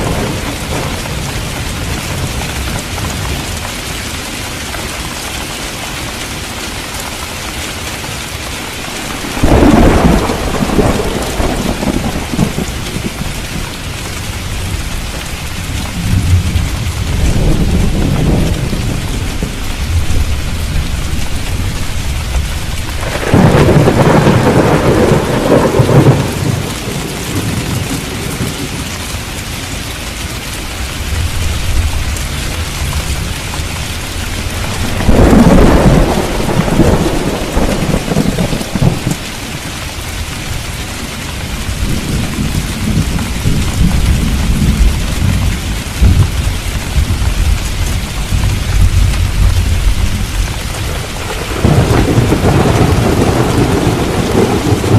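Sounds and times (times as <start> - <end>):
thunder rumbling: 0.0 - 3.9, 8.7 - 29.0, 31.0 - 54.9
heavy rain: 0.0 - 54.9.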